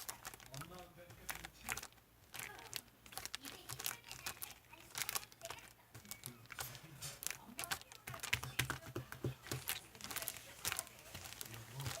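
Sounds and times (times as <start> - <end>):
slime clicking and popping: 0.0 - 12.0.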